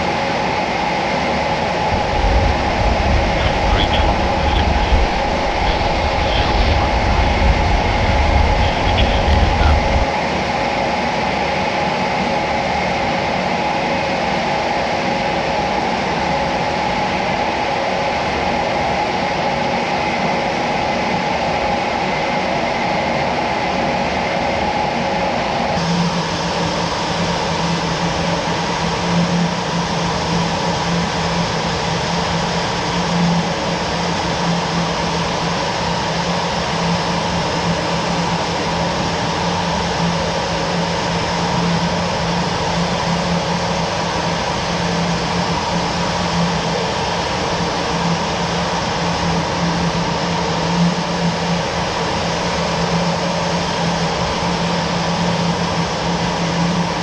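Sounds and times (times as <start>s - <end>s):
jet aircraft drone: 0.0s - 20.1s, 23.5s - 57.0s.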